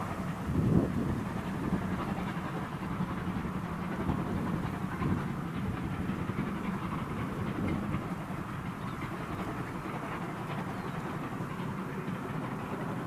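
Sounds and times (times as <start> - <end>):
steam locomotive working hard: 0.0 - 13.0
wind buffeting microphone: 0.0 - 13.0.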